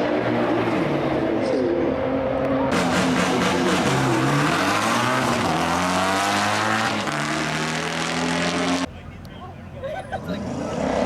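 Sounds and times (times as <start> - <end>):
race car engine at full throttle: 0.0 - 8.9.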